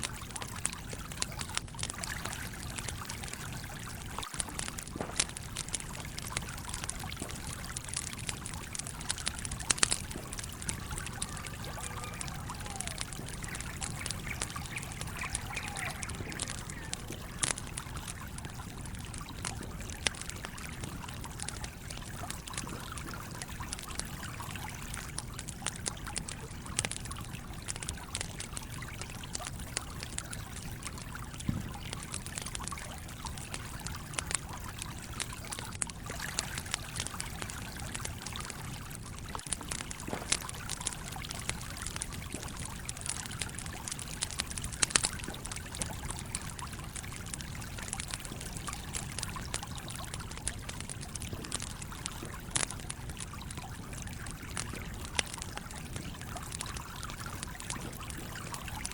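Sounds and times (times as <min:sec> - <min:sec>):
stream flowing: 0:00.0 - 0:35.4, 0:36.0 - 0:58.9
campfire crackling and popping: 0:00.0 - 0:58.9.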